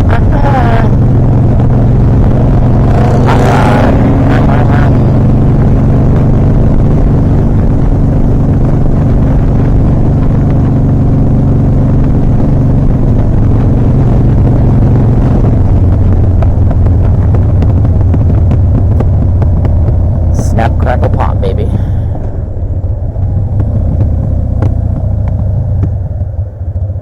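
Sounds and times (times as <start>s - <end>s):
motorcycle engine running: 0.0s - 27.0s
wind and road noise: 0.0s - 27.0s
engine pops: 4.7s - 27.0s.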